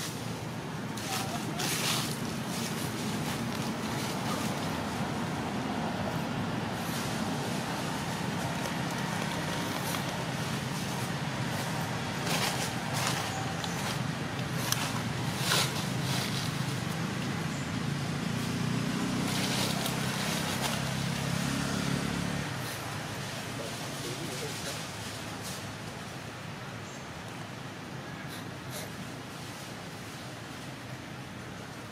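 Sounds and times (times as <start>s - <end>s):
vehicle engine humming: 0.0s - 31.9s.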